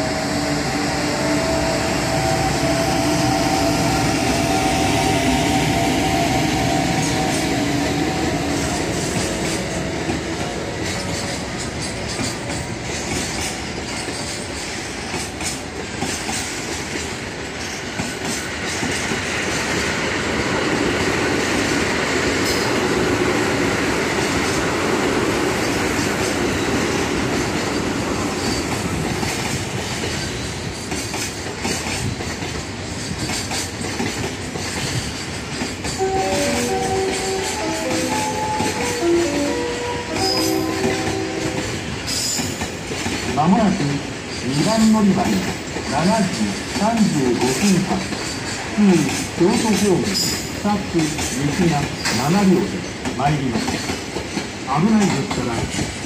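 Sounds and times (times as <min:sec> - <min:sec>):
freight train rumbling past: 0:00.0 - 0:56.0
wheels clacking over rail joints: 0:06.9 - 0:19.9, 0:23.7 - 0:56.0.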